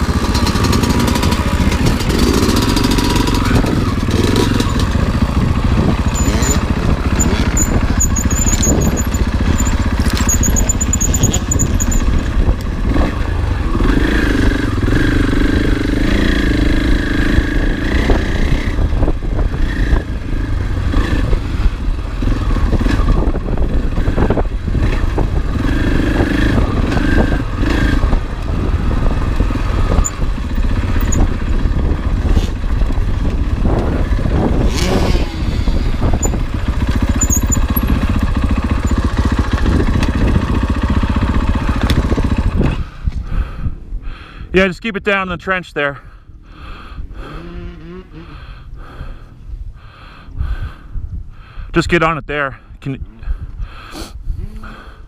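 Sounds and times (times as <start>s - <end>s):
dirt bike engine revving: 0.0s - 43.1s, 47.0s - 49.4s.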